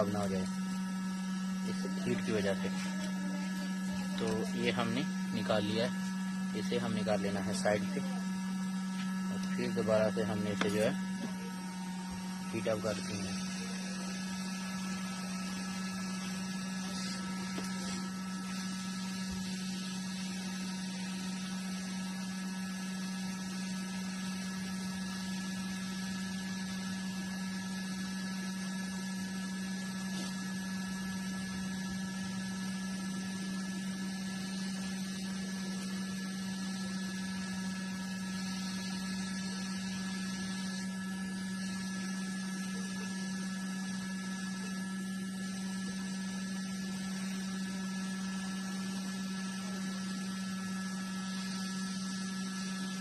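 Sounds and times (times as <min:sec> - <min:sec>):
hot air station blowing: 0:00.0 - 0:53.0.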